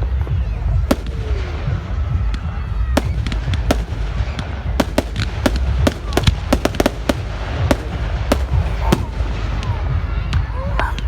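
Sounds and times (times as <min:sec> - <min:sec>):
steady low rumble: 0:00.0 - 0:11.0
fireworks cracks and bangs: 0:00.7 - 0:11.0.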